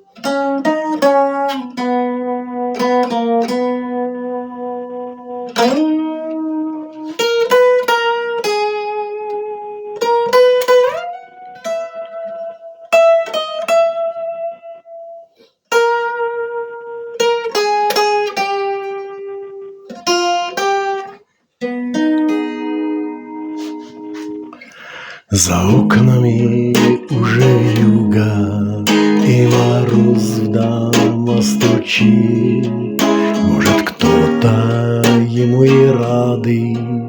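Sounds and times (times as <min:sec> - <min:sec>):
guitar playing slow melody: 0:00.0 - 0:37.0.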